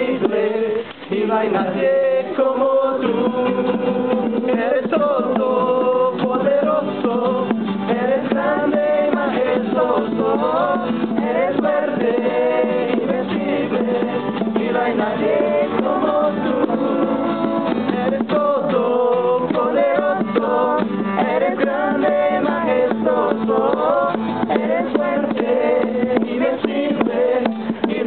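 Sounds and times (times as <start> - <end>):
guitar accompaniment: 0.0 - 28.0
voices singing a worship song: 0.0 - 28.0.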